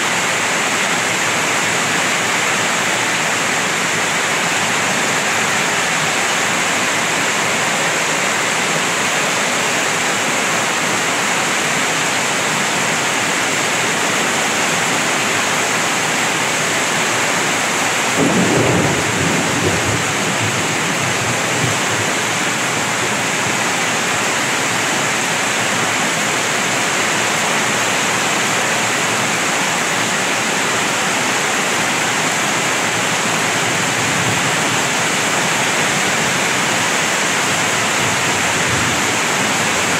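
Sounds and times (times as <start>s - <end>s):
heavy rain pouring on road: 0.0s - 39.9s.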